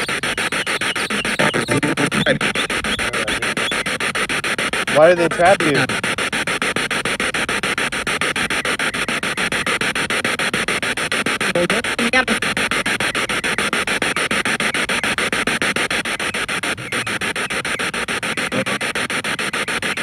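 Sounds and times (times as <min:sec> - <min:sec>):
pulsing radio static: 0:00.0 - 0:20.0
scrap of broadcast voice: 0:00.0 - 0:20.0.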